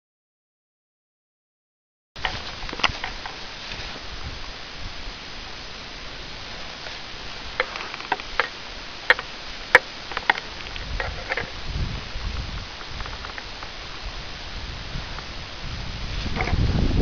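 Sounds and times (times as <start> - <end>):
footsteps on dry leaves: 2.2 - 16.7
steady hiss: 2.2 - 17.0.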